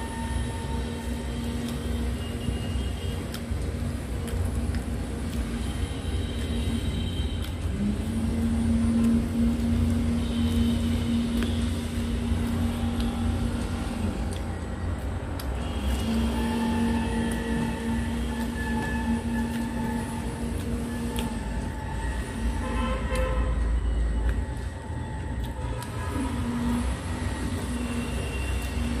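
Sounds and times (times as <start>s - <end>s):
droning hum: 0.0s - 29.0s.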